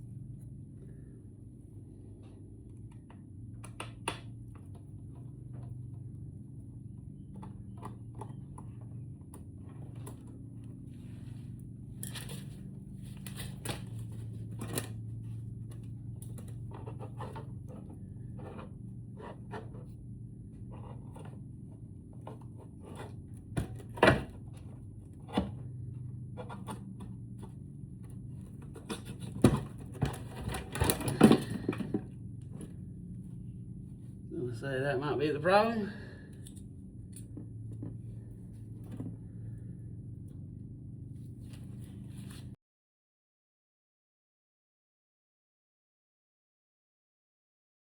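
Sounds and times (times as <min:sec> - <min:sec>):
steady low hum: 0:00.0 - 0:42.6.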